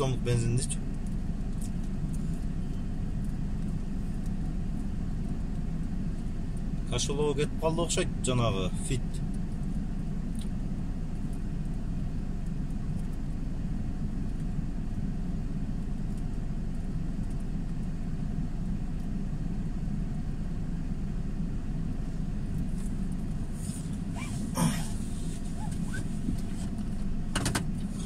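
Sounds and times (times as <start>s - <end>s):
car rumble: 0.0s - 28.0s.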